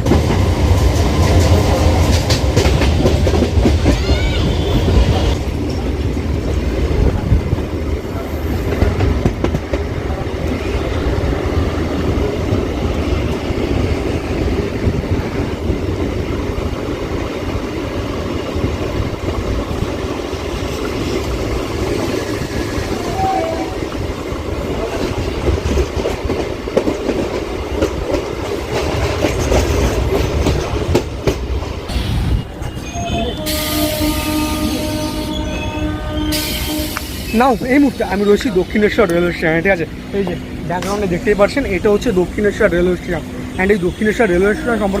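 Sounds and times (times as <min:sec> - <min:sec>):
rail joint clatter: 0:00.0 - 0:33.6, 0:36.9 - 0:42.1
train wheels rumbling on rail: 0:00.0 - 0:45.0.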